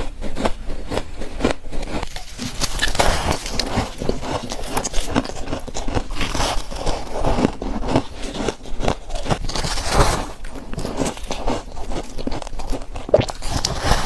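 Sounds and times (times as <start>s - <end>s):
crunching ice in mouth: 0.0s - 14.0s.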